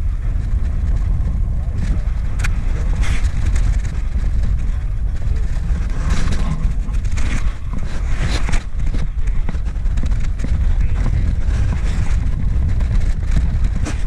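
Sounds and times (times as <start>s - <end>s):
strong wind buffeting microphone: 0.0s - 14.0s
rustles and knocks: 0.4s - 14.0s.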